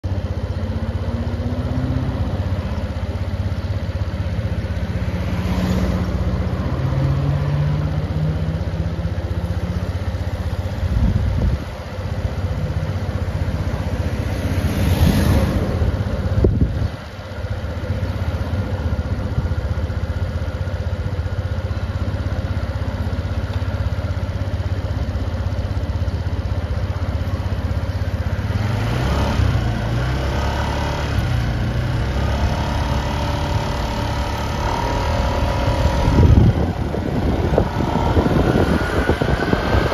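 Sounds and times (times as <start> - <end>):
road and wind noise: 0.0 - 39.9
motor scooter engine running: 0.1 - 7.0, 7.8 - 39.9.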